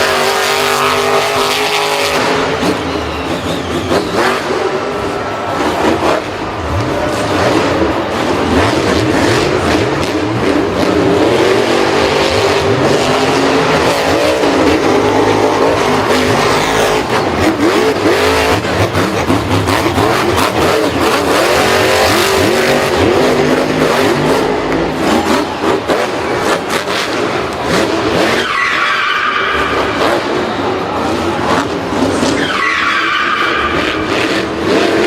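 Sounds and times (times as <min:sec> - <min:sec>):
vehicle engines revving: 0:00.0 - 0:35.0.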